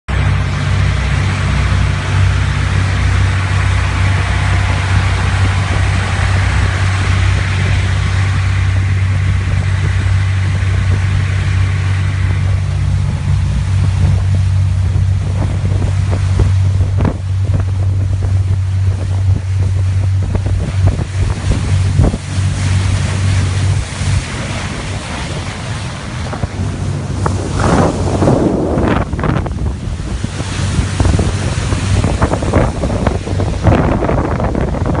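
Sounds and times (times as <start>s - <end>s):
boat engine drone: 0.1s - 35.0s
water rushing along hull: 0.1s - 35.0s
wind on microphone: 0.1s - 35.0s.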